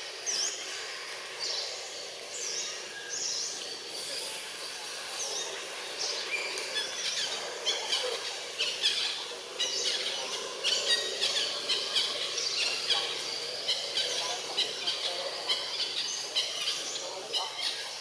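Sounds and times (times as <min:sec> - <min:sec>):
birds chirping: 0:00.0 - 0:18.0
steady background hiss: 0:00.0 - 0:18.0.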